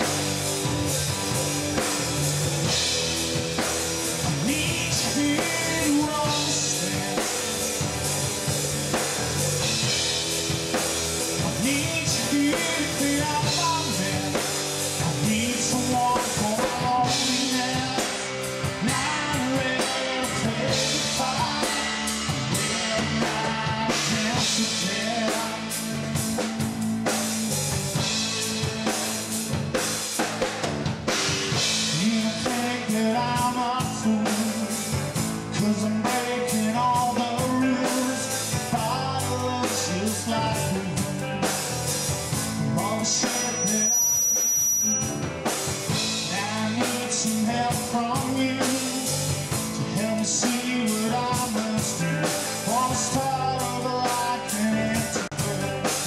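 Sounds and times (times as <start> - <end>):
drum kit beat: 0.0 - 56.0
electric guitars: 0.0 - 56.0.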